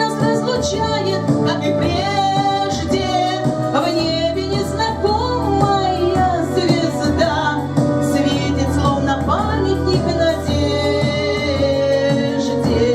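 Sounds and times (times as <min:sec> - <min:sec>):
instrumental accompaniment: 0:00.0 - 0:12.9
woman singing: 0:00.0 - 0:12.9.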